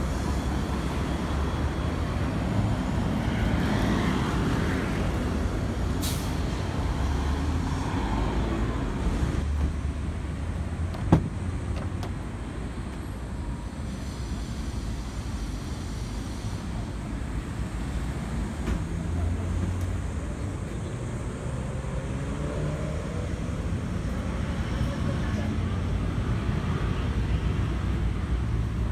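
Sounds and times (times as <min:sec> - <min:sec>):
road traffic rumble: 0:00.0 - 0:28.9.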